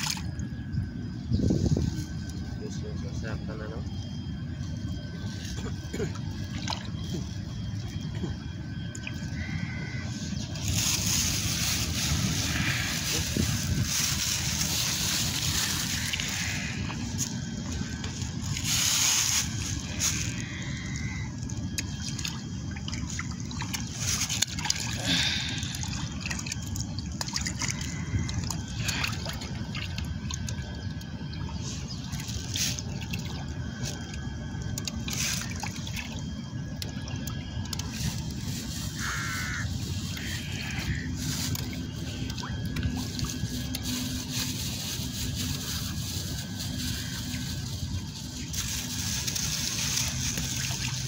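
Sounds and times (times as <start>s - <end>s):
steady low rumble: 0.0s - 51.0s
fish splashing at water surface: 5.8s - 51.0s.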